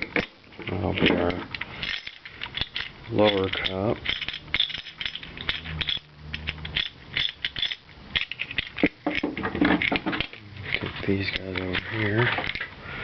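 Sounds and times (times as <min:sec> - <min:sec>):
metal parts clinking and rattling: 0:00.0 - 0:12.8.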